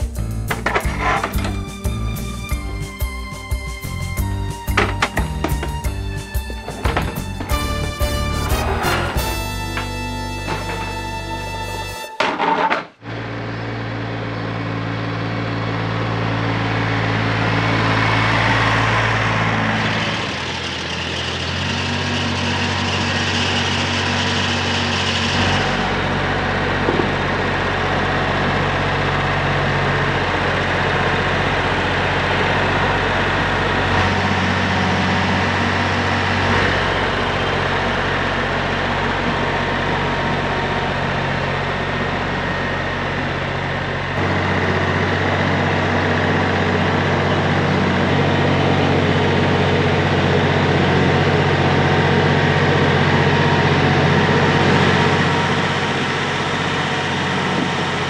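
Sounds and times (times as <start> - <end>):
tractor engine revving: 0.0 - 58.0.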